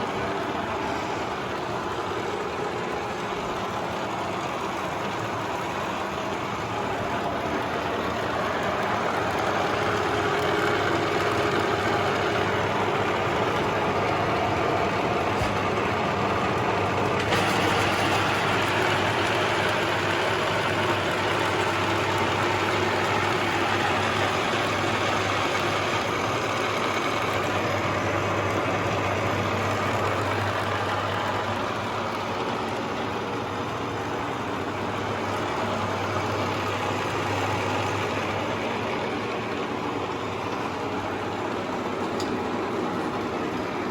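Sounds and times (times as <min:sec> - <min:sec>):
milling machine hum and whir: 0:00.0 - 0:43.9.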